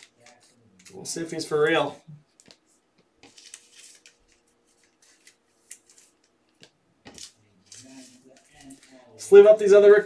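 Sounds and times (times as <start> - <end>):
cards rustling and clicking: 0.0 - 1.4, 2.3 - 9.2.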